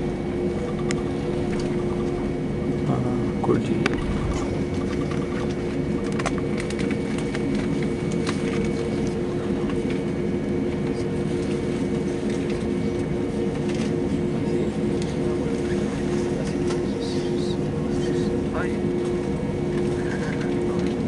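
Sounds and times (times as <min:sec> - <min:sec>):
airplane cabin drone: 0:00.0 - 0:21.0.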